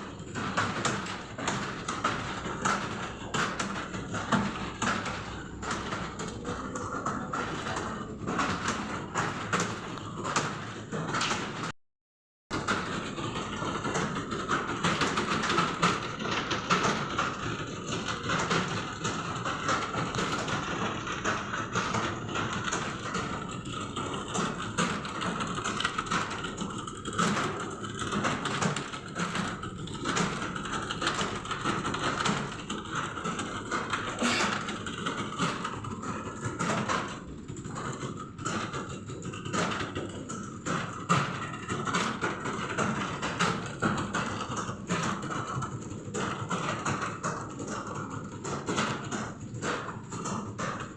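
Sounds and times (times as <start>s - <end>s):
steady background hum: 0.0s - 11.7s, 12.6s - 50.9s.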